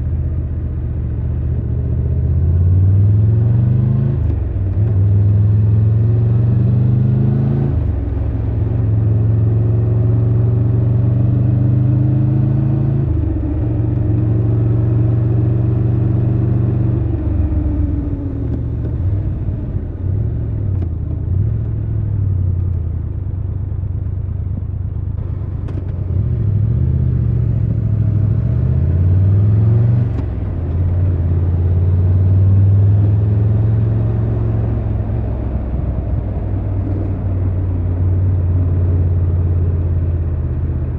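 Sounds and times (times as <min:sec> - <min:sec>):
motorcycle engine accelerating: 0:01.4 - 0:40.9.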